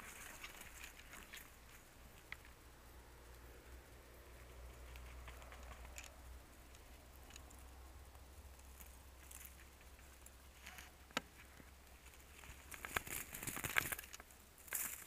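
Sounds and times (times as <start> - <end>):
rustling of dry grass: 0.0 - 15.0.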